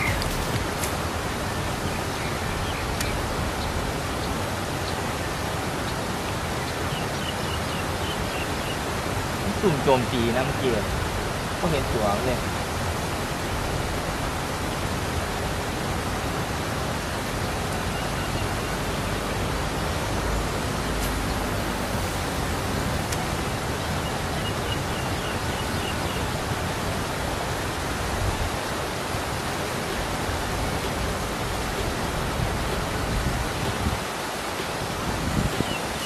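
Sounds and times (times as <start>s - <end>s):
water rushing over weir: 0.0s - 36.0s.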